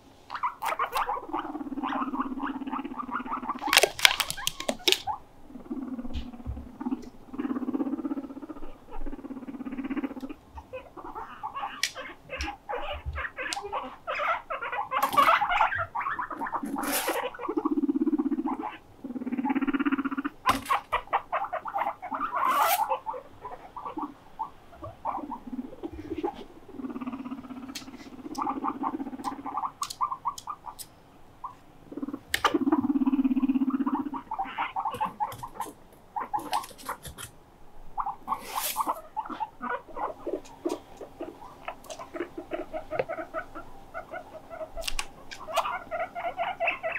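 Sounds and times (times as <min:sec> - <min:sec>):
guinea pig chatter: 0:00.0 - 0:46.9
guinea pigs rumbling: 0:00.0 - 0:46.9.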